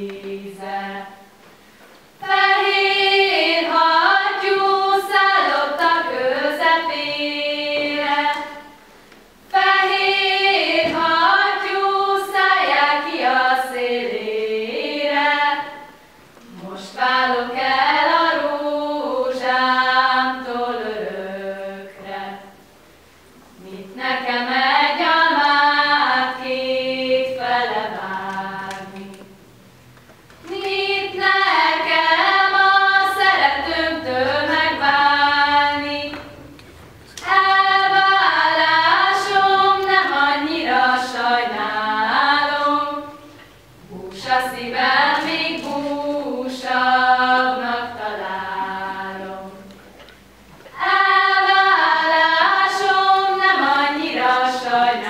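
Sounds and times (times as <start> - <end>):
women singing folk song unaccompanied: 0.0 - 22.7, 23.5 - 29.4, 30.4 - 49.9, 50.6 - 55.0.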